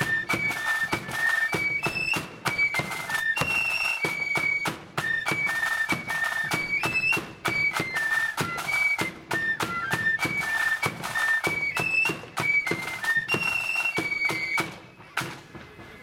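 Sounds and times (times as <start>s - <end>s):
flutes playing high melody: 0.0s - 15.2s
side drums and bass drum: 0.0s - 16.0s.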